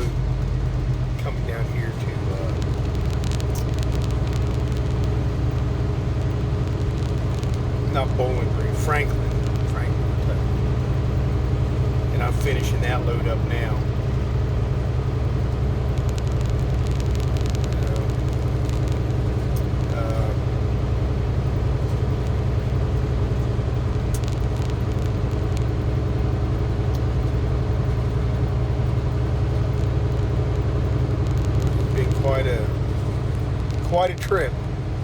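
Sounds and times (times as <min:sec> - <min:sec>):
truck engine and road drone: 0:00.0 - 0:35.0.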